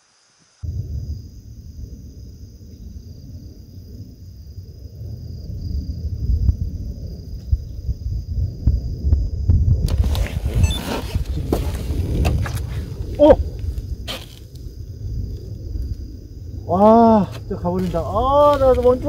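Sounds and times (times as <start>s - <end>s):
crickets trilling: 0.0s - 19.0s
irregular low rumble: 0.6s - 19.0s.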